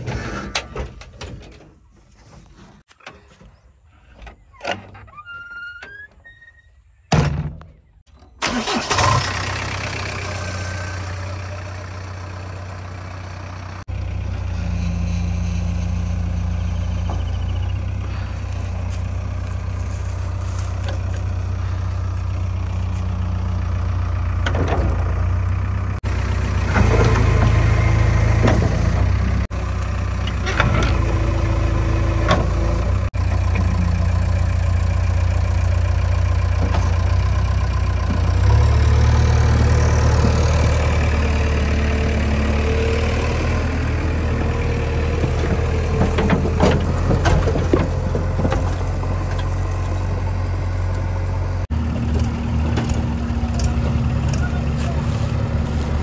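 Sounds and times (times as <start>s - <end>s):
loader loading mud: 7.2s - 56.0s
diesel engines running: 7.8s - 56.0s.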